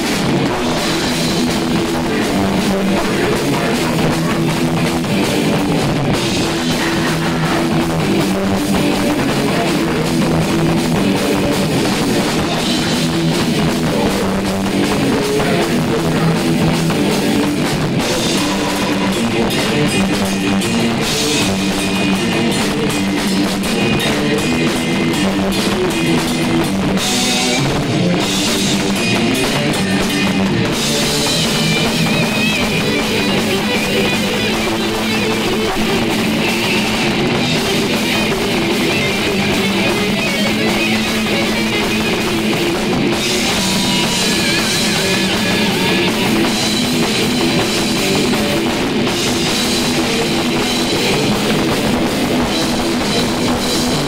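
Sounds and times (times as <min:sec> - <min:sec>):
distorted electric guitars: 0:00.0 - 0:54.0
drum kit: 0:00.0 - 0:54.0.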